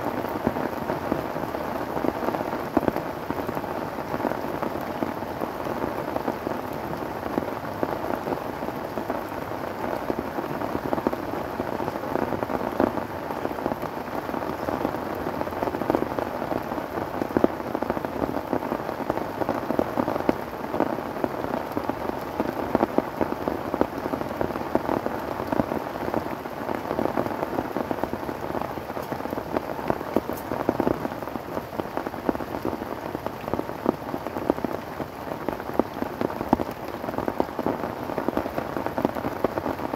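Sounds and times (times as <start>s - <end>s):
heavy rain on tarp and foliage: 0.0s - 39.9s.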